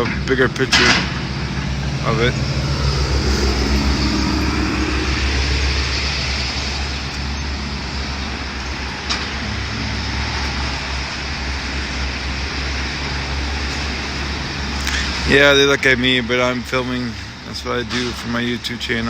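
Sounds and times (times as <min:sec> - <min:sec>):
low engine rumble: 0:00.0 - 0:19.0
road traffic: 0:00.0 - 0:19.0.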